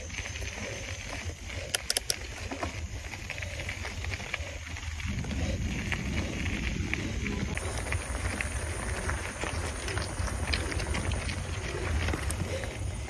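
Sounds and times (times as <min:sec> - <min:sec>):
bike clicks and rattles: 0:00.0 - 0:13.0
mountain bike rolling on dirt: 0:00.0 - 0:13.0
wind rumbling on microphone: 0:00.0 - 0:13.0.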